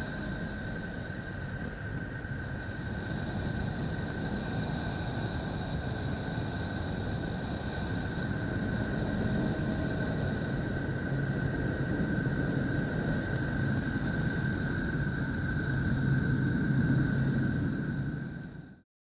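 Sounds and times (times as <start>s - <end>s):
rumbling drone: 0.0s - 18.8s.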